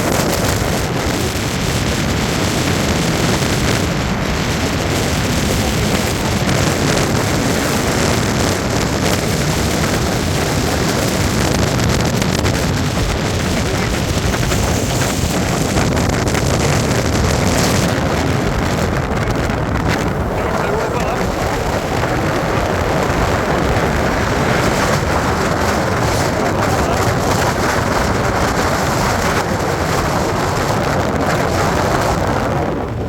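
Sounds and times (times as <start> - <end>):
gale-force wind on microphone: 0.0 - 33.0.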